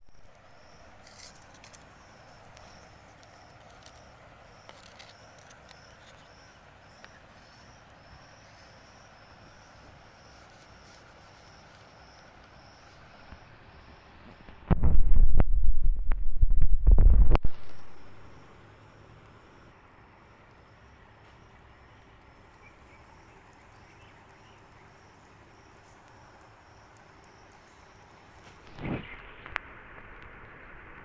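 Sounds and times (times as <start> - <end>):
insect chirping: 0.0 - 31.0
low background hiss: 0.0 - 31.0.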